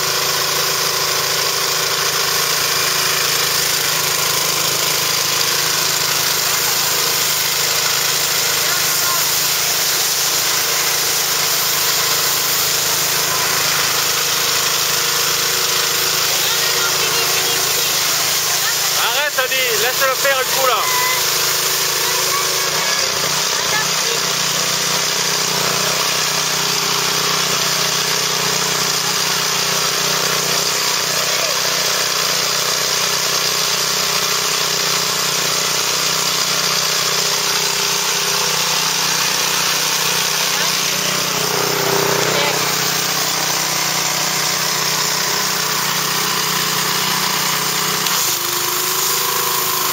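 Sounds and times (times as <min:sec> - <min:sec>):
pressure washer engine running: 0:00.0 - 0:49.9
water jet spraying hiss: 0:00.1 - 0:49.9.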